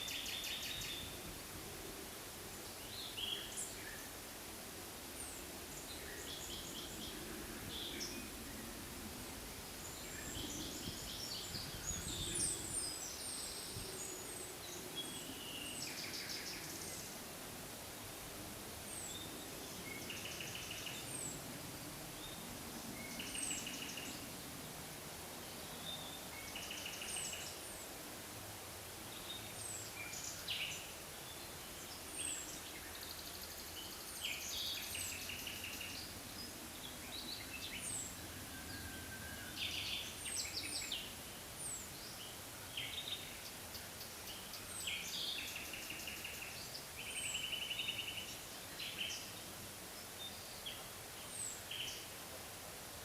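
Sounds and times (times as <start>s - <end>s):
songbirds singing: 0.0s - 4.5s, 5.1s - 17.6s, 18.8s - 24.8s, 25.4s - 28.2s, 29.0s - 52.2s
steady background hiss: 0.0s - 53.0s.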